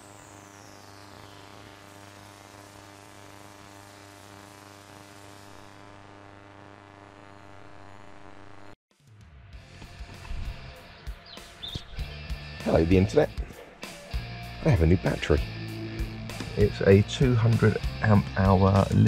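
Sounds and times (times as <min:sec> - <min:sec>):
buzzy electrical hum: 0:00.0 - 0:08.8, 0:11.6 - 0:19.0.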